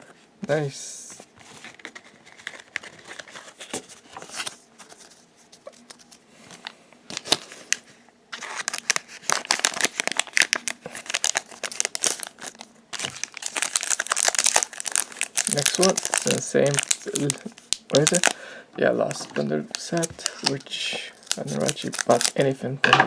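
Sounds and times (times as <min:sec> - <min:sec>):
foil wrapper crinkling and tearing: 0:01.5 - 0:06.2, 0:07.1 - 0:18.4, 0:19.7 - 0:22.6.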